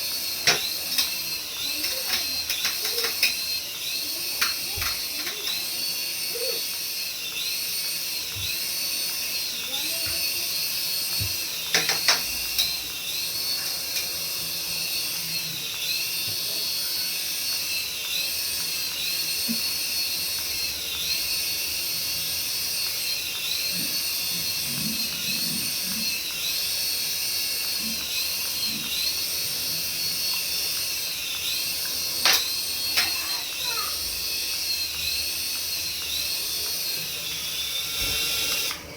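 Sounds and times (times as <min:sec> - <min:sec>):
small electric motor whining: 0:00.0 - 0:38.9.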